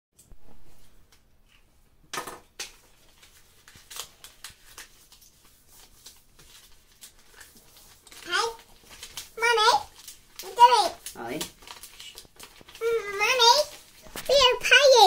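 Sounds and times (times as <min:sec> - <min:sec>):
paper rustling and folding: 0:02.5 - 0:15.0.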